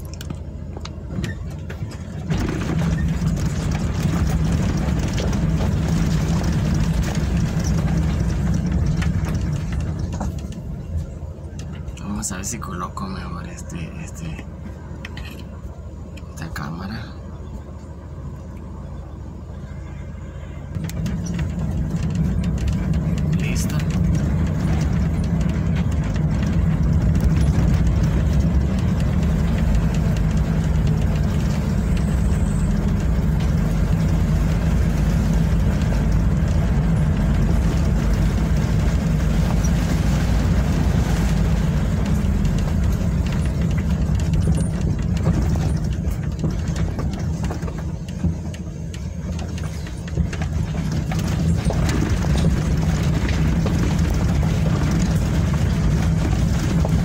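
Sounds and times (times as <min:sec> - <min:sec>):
road noise: 0:00.0 - 0:57.0
vehicle engine running: 0:00.0 - 0:57.0.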